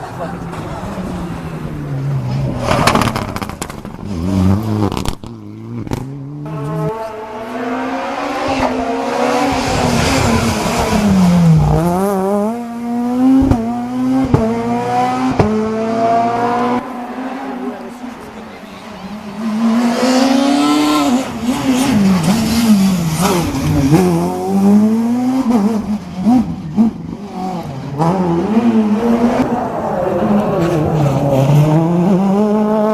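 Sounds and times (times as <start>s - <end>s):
rally car engines revving: 0.0s - 32.9s.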